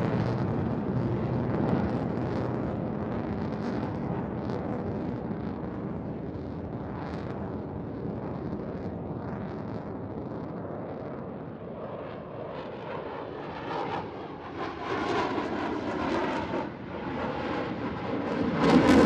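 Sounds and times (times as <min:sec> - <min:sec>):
jet fighter engines roaring: 0:00.0 - 0:19.0.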